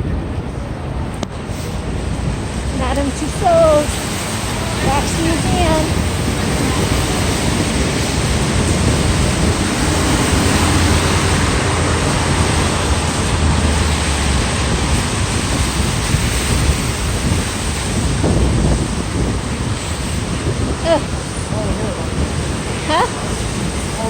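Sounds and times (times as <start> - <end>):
wind buffeting microphone: 0.0 - 24.0
heavy rain falling: 1.3 - 24.0.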